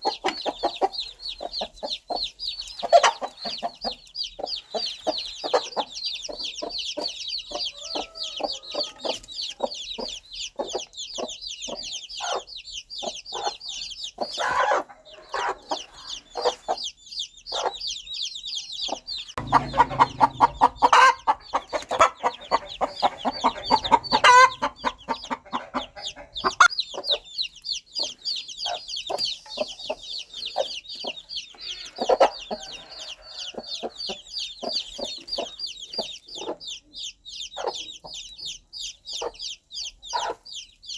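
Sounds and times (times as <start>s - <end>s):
hen clucking: 0.0s - 40.6s
chicks peeping: 0.0s - 40.9s.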